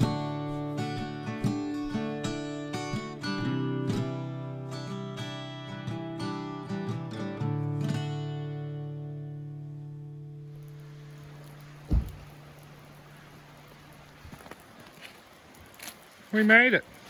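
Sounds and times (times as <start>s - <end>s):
acoustic guitar music: 0.0s - 14.3s.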